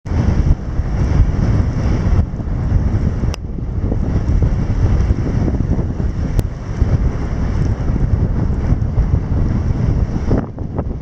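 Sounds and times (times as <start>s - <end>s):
wind buffeting microphone: 0.0s - 11.0s
shallow river rushing: 0.1s - 11.0s.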